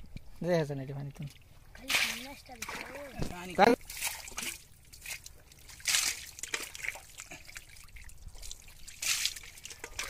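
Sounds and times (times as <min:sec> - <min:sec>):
water trickling and dripping: 0:00.0 - 0:10.0
hands splashing in muddy water: 0:01.9 - 0:10.0.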